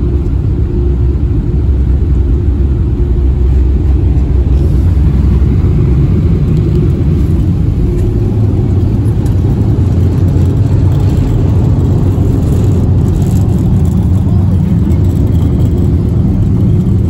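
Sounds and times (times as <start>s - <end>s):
machine rumbling: 0.0s - 17.0s.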